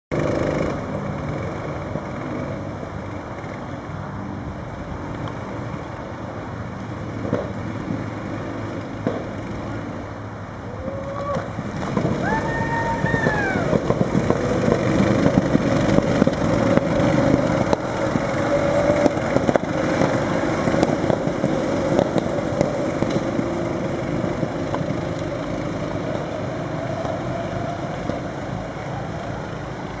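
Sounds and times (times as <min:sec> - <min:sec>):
go-kart engines racing: 0:00.1 - 0:30.0.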